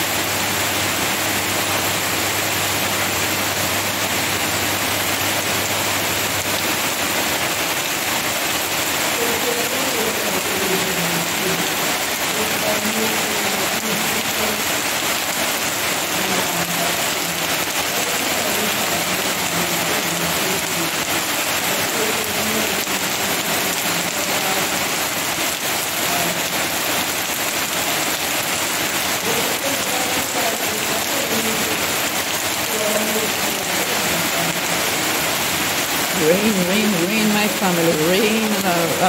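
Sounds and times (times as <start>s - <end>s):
heavy rain on leaves: 0.0s - 39.0s.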